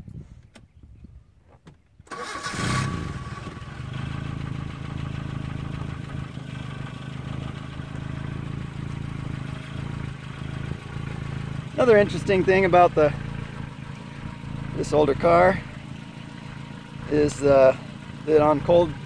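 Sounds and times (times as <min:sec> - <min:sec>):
car engine starting and idling: 0:02.0 - 0:19.0.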